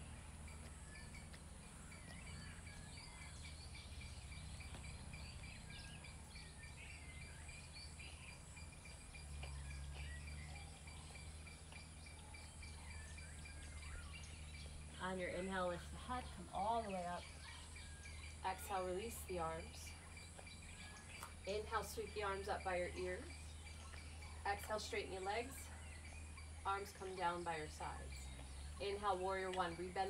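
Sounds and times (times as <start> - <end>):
bird chirps and calls: 0.0 - 30.0.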